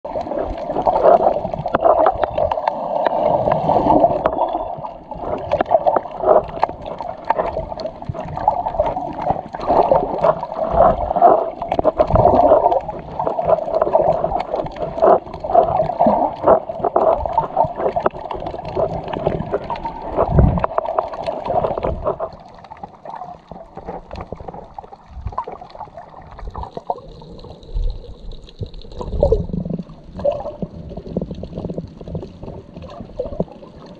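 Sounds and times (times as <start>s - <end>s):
muffled underwater gurgling: 0.1s - 33.9s
small bubbling clicks: 0.1s - 33.9s.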